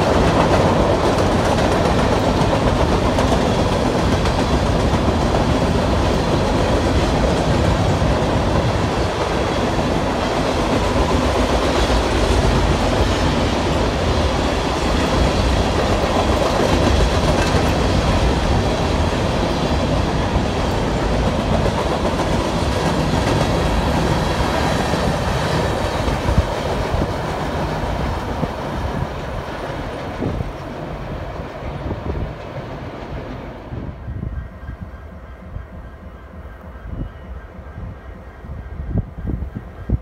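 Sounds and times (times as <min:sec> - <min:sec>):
clickety-clack over rail joints: 0:00.0 - 0:33.8
freight train wheels on rails: 0:00.0 - 0:40.0.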